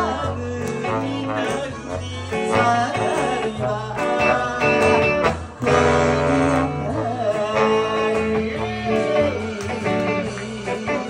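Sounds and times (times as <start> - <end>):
electric guitar playing: 0.0 - 11.0
low accompaniment: 0.0 - 11.0
man singing into a microphone: 0.0 - 11.0.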